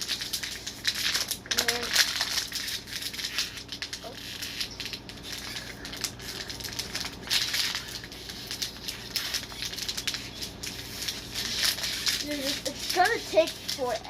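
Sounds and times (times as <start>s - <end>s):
plastic bottle crinkling: 0.0s - 14.0s.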